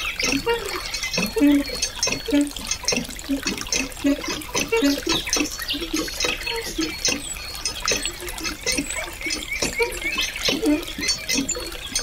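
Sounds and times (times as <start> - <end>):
water plops and drips: 0.0 - 12.0
water trickling into pond: 0.0 - 12.0.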